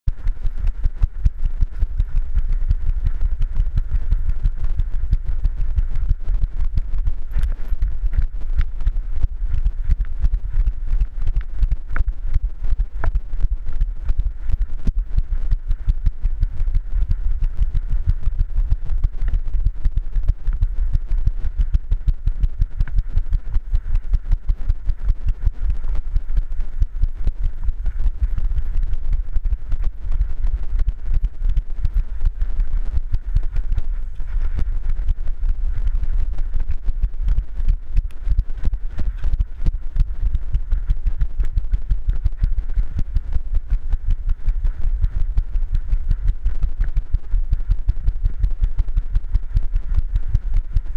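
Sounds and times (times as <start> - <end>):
handling and wind rumble: 0.1 - 48.5.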